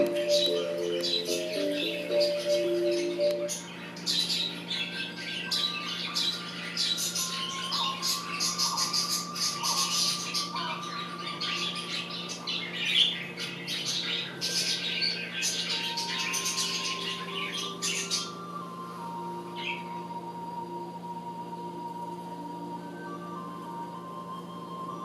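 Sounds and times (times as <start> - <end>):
small birds chattering: 0.0 - 20.3
steady low hum: 0.0 - 25.0.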